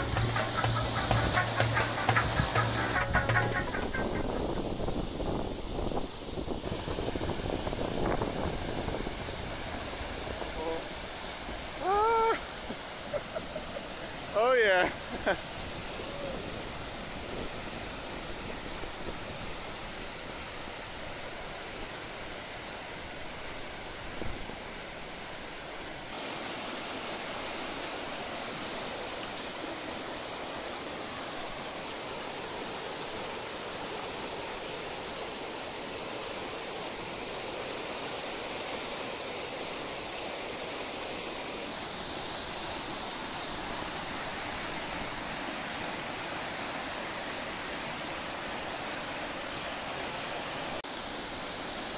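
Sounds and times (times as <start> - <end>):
river rapids rushing: 0.0 - 51.9.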